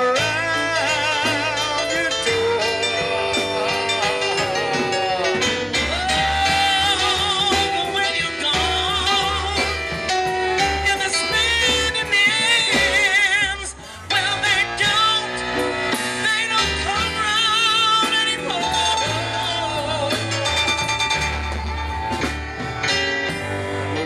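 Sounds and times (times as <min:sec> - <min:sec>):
woman singing with vibrato: 0:00.0 - 0:21.1
live band playing: 0:00.0 - 0:24.0.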